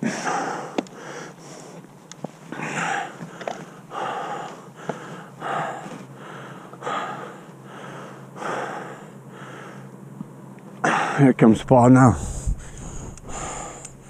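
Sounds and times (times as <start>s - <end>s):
man breathing heavily: 0.0s - 1.8s, 2.5s - 10.0s, 10.8s - 11.3s, 12.0s - 14.0s.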